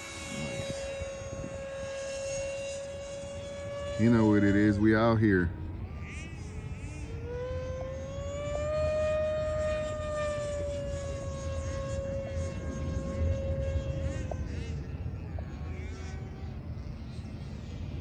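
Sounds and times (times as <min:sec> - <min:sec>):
electric ducted fan whining: 0:00.0 - 0:18.0.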